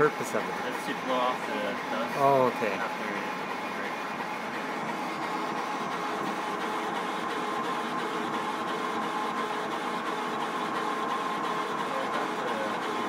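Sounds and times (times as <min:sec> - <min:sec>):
laser cutter humming: 0:00.0 - 0:13.0.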